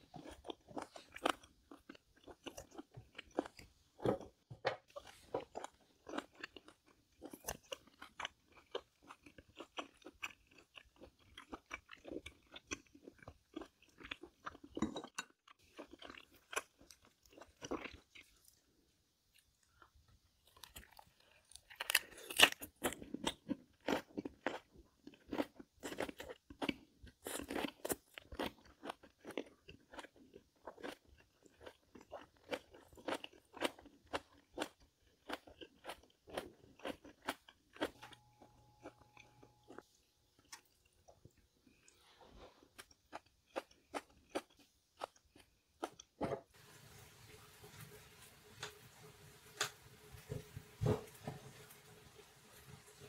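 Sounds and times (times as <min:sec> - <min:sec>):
chewing crunchy food: 0:00.0 - 0:46.5.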